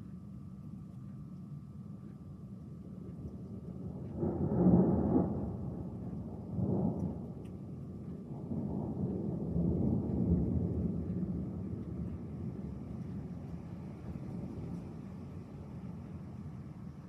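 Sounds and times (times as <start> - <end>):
thunder rumbling: 2.6 - 17.0.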